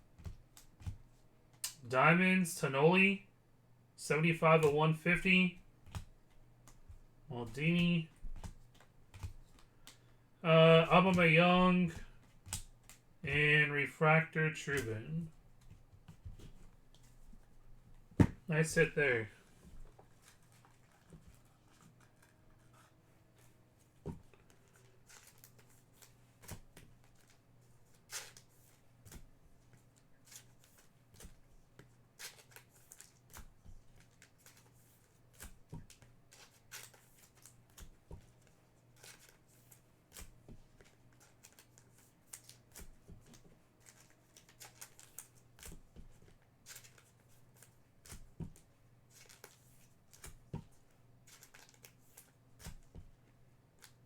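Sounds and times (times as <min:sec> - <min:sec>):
cards and wrappers rustling: 0:04.5 - 0:17.5, 0:18.2 - 0:53.1.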